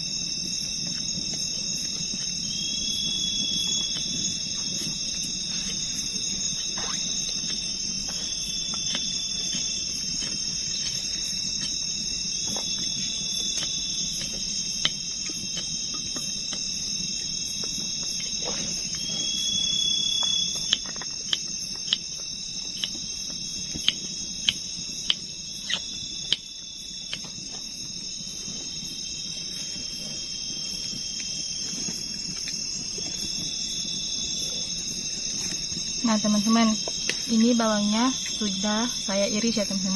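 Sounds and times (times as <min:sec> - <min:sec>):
crickets trilling: 0:00.0 - 0:39.9
insect chirp: 0:00.0 - 0:39.9.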